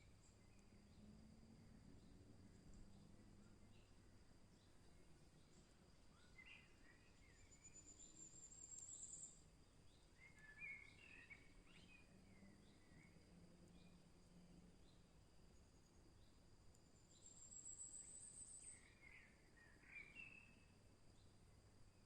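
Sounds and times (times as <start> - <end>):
songbirds chirping and warbling: 1.9 - 14.0, 14.8 - 21.4.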